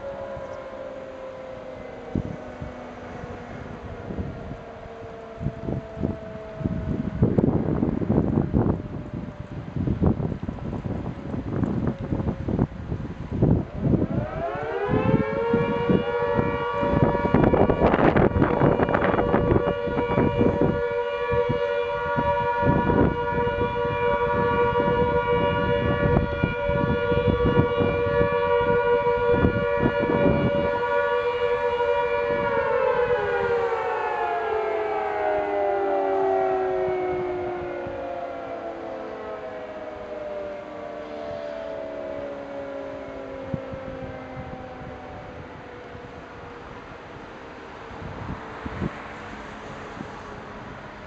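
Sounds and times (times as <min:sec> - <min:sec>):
air-raid siren: 0:00.0 - 0:51.0
wind buffeting microphone: 0:00.0 - 0:51.0.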